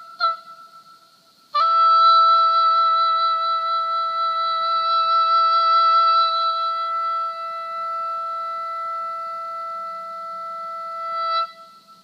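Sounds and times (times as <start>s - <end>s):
oboe long high note: 0.0s - 12.0s.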